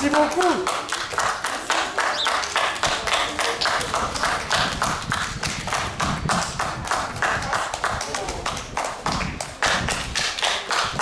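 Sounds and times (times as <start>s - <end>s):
audience clapping in unison: 0.0s - 11.0s.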